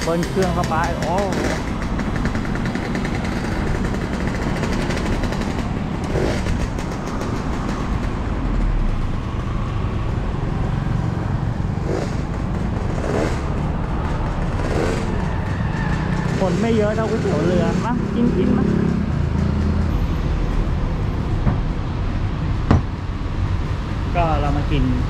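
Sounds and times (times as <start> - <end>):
motor traffic: 0.0 - 25.0.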